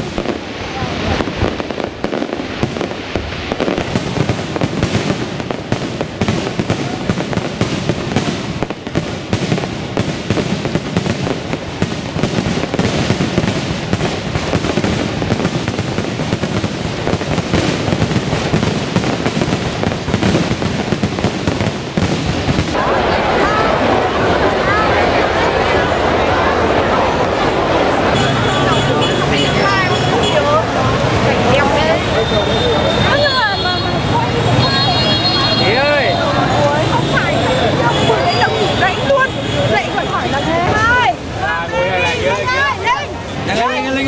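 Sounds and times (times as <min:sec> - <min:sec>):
fireworks crackling and popping: 0:00.0 - 0:44.0.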